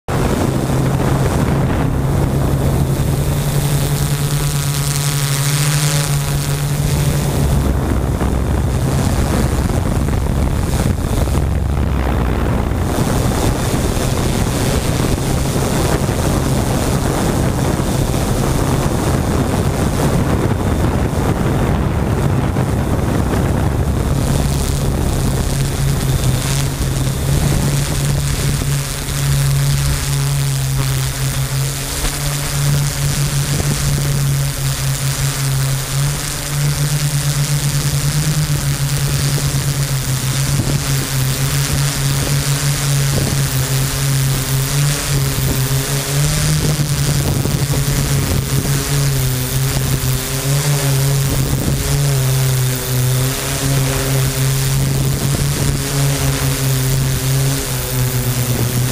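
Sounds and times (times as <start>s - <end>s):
drone propellers humming: 0.0s - 58.9s
wind rushing over microphone: 0.0s - 58.9s.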